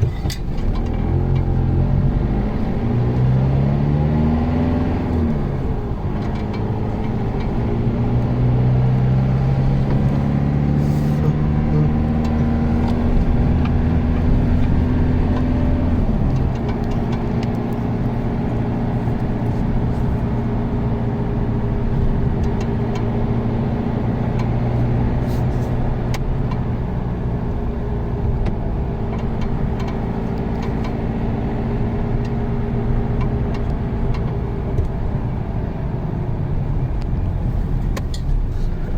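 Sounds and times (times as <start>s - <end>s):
vehicle engine humming: 0.0s - 38.9s.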